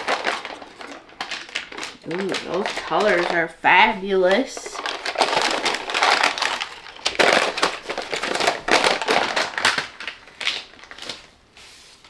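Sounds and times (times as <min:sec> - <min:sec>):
paper liner crinkling: 0:00.0 - 0:12.0.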